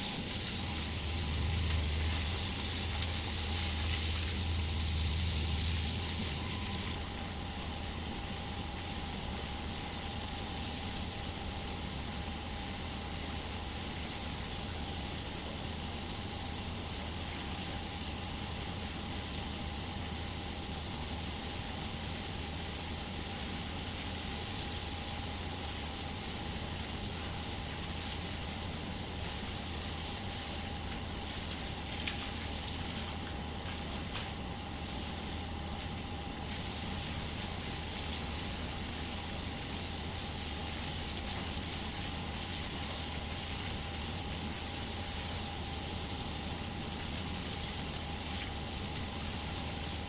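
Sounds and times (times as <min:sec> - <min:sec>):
motor droning with whine: 0:00.0 - 0:50.0.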